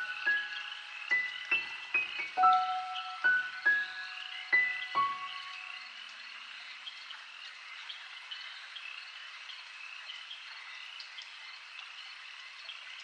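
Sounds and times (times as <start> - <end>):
crickets chirping: 0.0 - 10.8
frogs chirping: 0.0 - 13.0.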